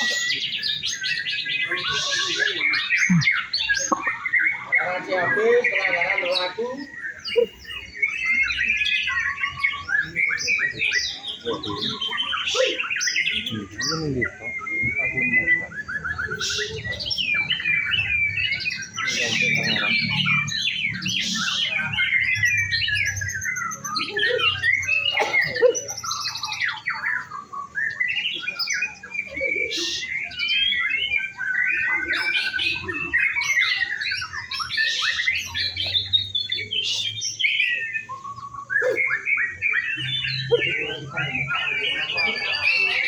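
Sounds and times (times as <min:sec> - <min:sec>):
bird whistling song: 0:00.0 - 0:43.0.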